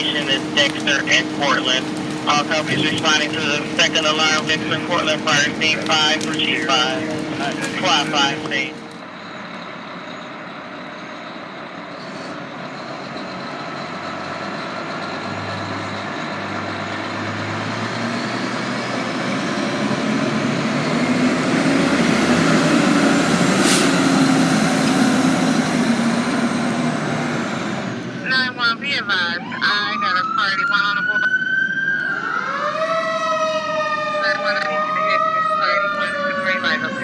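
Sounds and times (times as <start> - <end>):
fire engine diesel engine: 0.0 - 37.0.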